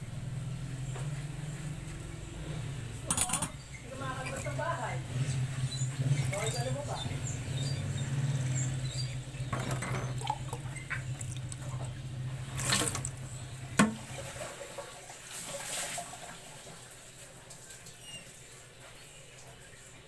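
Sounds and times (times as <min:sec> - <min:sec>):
water running and splashing at sink: 0:03.0 - 0:20.0.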